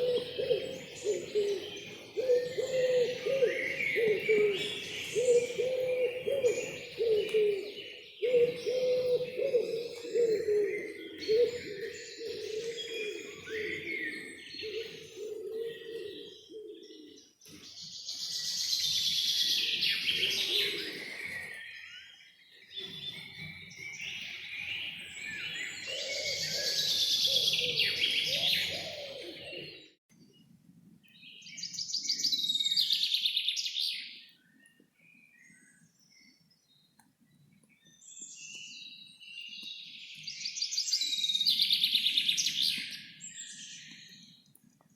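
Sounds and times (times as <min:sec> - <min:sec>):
low steady bird call: 0:00.0 - 0:44.9
songbirds chirping and trilling: 0:00.0 - 0:44.9.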